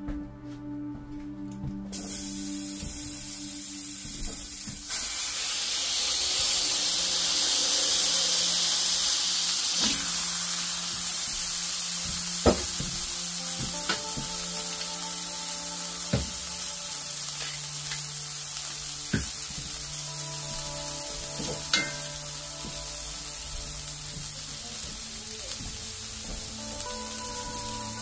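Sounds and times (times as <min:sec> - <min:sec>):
food sizzling in a skillet: 0:01.9 - 0:28.0.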